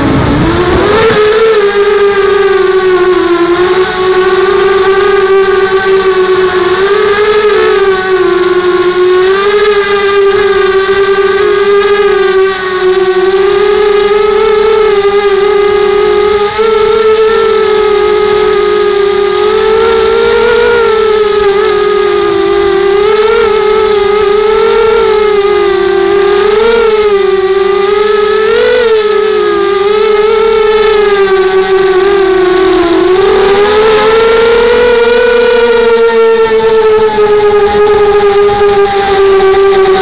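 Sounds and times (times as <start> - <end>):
model aircraft motors humming: 0.0 - 40.0.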